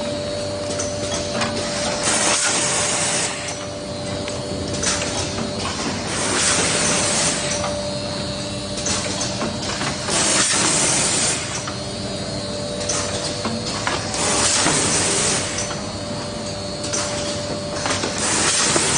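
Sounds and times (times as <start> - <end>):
machine humming: 0.0 - 18.9
machine hiss: 1.7 - 4.1, 4.8 - 17.4, 18.0 - 18.9.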